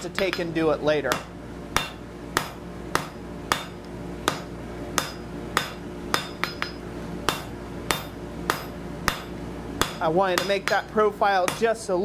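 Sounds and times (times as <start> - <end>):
hammer striking metal on anvil: 0.2 - 11.8.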